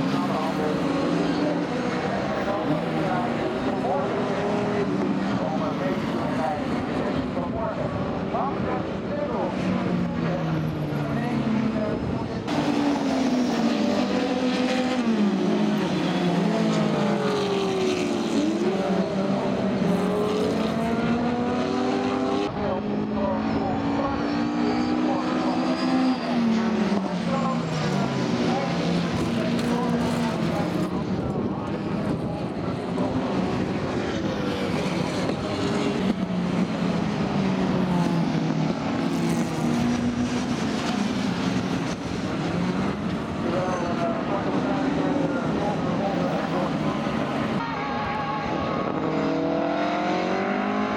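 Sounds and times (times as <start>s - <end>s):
racing car engines: 0.0s - 50.9s.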